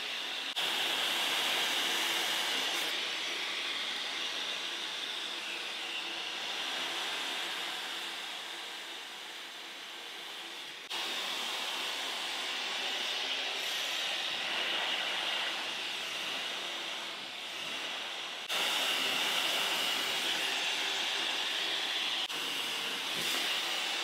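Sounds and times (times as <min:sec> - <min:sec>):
hair dryer blowing with high whine: 0:00.0 - 0:24.0.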